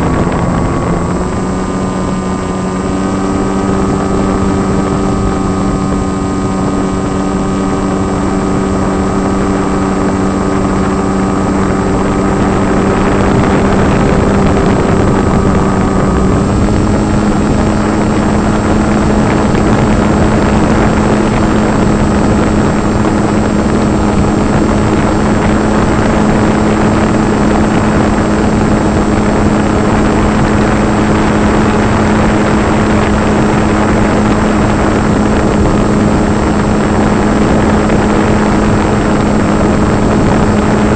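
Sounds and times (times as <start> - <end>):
electric motor and propeller hum: 0.0 - 40.9
wind rushing over microphone: 0.0 - 40.9.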